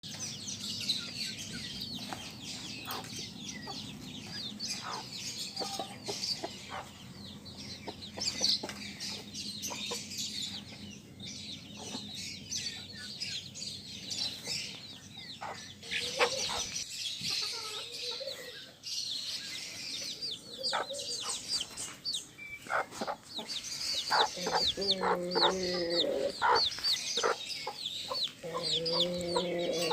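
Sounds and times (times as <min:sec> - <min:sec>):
chickens calling and clucking: 0:00.0 - 0:29.9.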